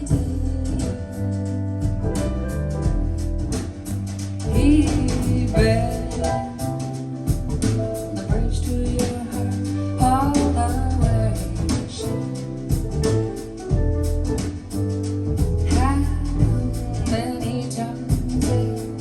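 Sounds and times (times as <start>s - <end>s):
heavy bass: 0.0s - 19.0s
jazz song with female vocals: 0.0s - 19.0s
steady drum beat: 0.0s - 19.0s.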